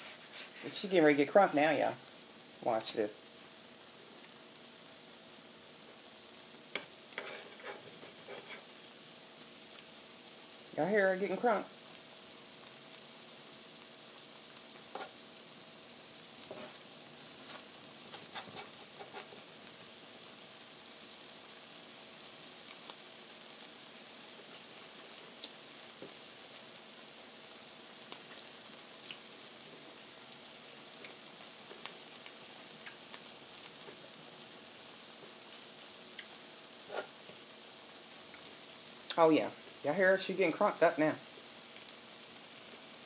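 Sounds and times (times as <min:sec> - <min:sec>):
food sizzling on a griddle: 0:00.0 - 0:43.0
sharp pops from frying: 0:02.0 - 0:43.0.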